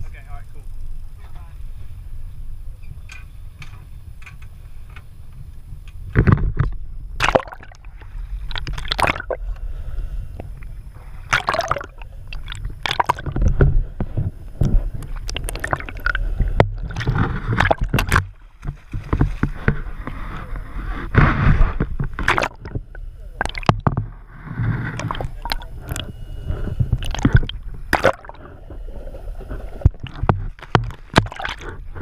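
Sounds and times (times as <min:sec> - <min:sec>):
boat engine rumbling: 0:00.0 - 0:32.0
water splashing against hull: 0:06.1 - 0:32.0.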